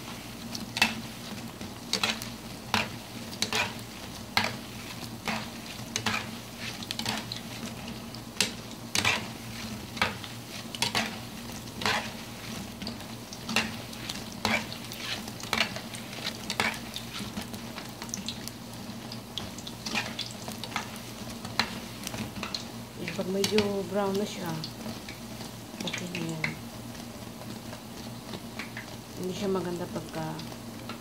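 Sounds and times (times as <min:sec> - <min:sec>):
dough sizzling in hot oil: 0:00.0 - 0:31.0.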